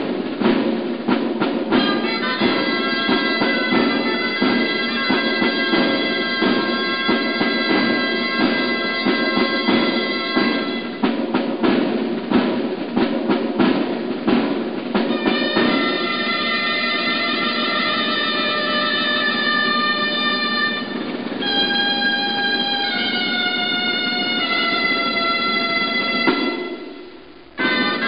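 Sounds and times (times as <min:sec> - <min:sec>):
drum beats: 0:00.0 - 0:28.0
shawms playing a reedy tune: 0:00.0 - 0:28.0.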